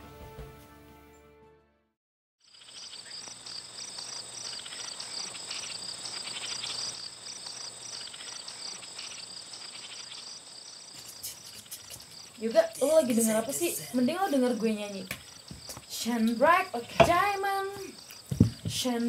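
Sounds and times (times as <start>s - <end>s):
crickets trilling and chirping: 2.4s - 19.0s.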